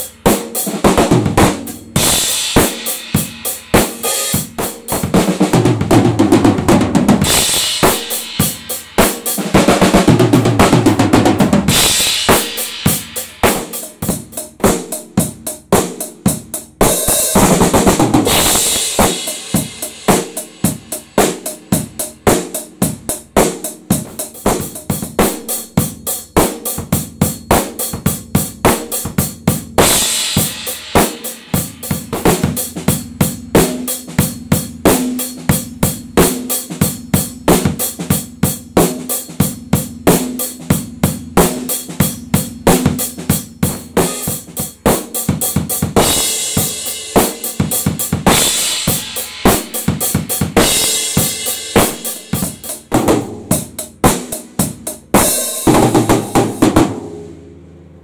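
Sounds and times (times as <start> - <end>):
drum kit beat: 0.0 - 57.5.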